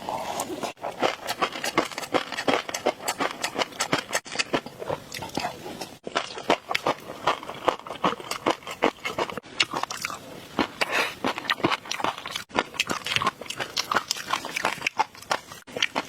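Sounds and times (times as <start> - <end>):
crunching and chewing: 0.0 - 16.0.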